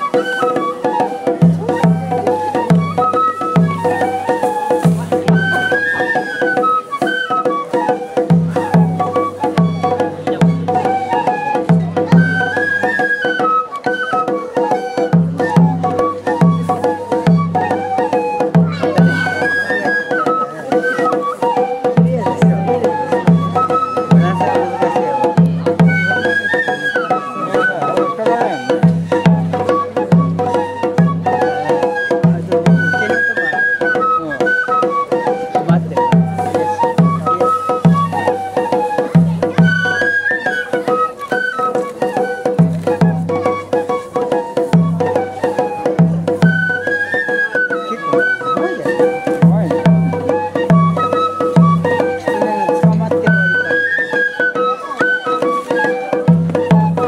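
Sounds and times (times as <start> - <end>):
taiko drum beat: 0.0 - 54.0, 56.0 - 57.0
transverse flutes playing melody: 0.0 - 57.0.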